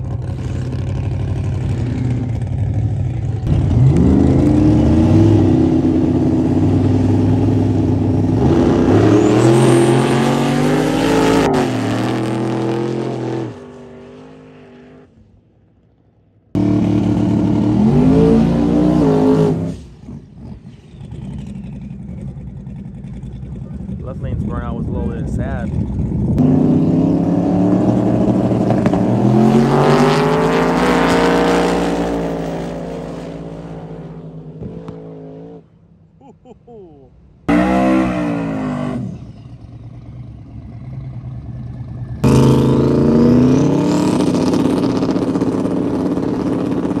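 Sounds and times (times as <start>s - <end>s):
drag car engines revving: 0.0s - 15.1s, 16.6s - 36.1s, 37.1s - 47.0s.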